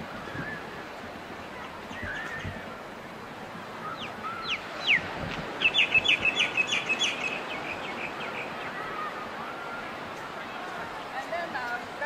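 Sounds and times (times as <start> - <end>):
background hiss: 0.0 - 12.0
songbird singing: 0.0 - 12.0.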